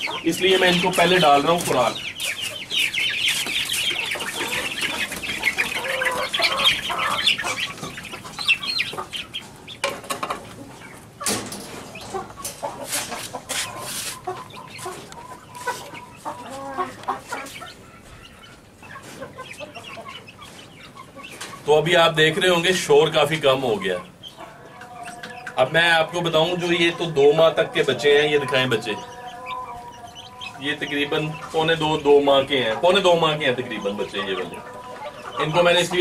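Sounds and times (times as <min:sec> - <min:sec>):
chicks peeping and clucking: 0:00.0 - 0:36.0.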